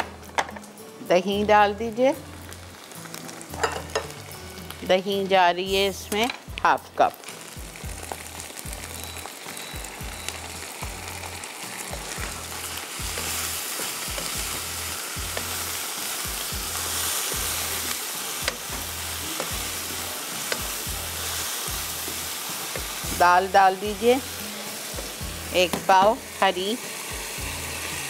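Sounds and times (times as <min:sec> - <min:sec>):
meat sizzling in a wok: 0:00.0 - 0:28.0.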